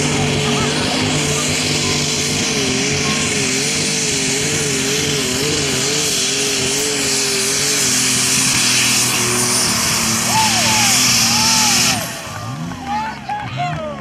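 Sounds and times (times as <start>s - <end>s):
loud rushing hiss: 0.0s - 12.4s
tractor engine running flat out: 0.0s - 14.0s.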